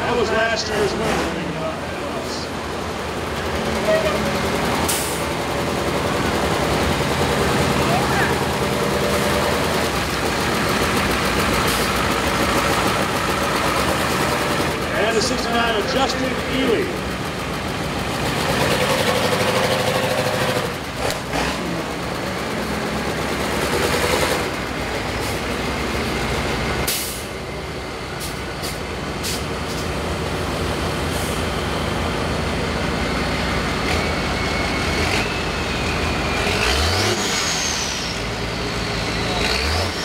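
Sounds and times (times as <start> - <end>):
bus engines running hard: 0.0 - 40.0.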